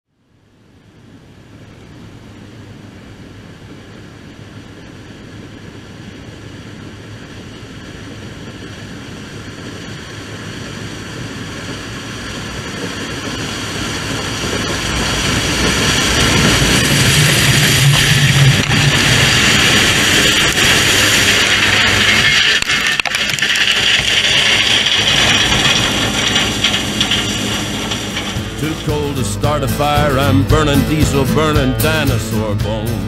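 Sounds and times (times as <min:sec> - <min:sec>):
low steady hum: 0:00.1 - 0:33.0
combine harvester machinery: 0:01.2 - 0:33.0.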